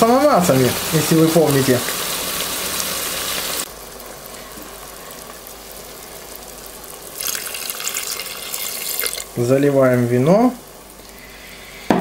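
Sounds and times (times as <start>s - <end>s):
meat sizzling: 0.0s - 12.0s
wine hissing on hot bowl: 0.0s - 12.0s.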